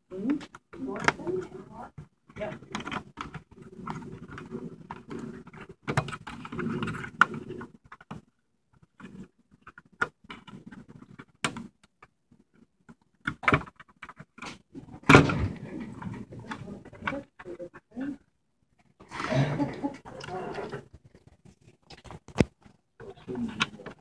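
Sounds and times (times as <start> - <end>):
hands rustling inside computer: 0.0 - 24.0.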